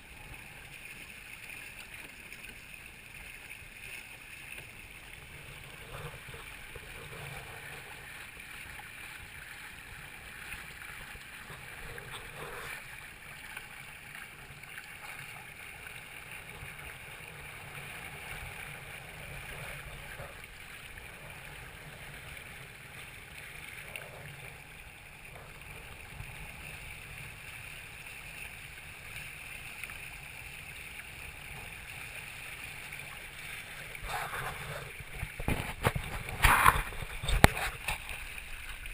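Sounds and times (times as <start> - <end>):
water rushing along hulls: 0.0 - 38.9.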